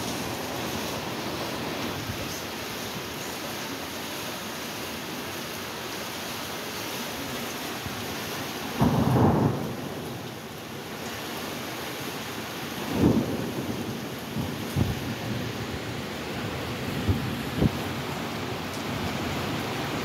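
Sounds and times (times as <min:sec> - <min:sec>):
floodwater running down street: 0:00.0 - 0:20.0
heavy rain hissing: 0:00.0 - 0:20.0.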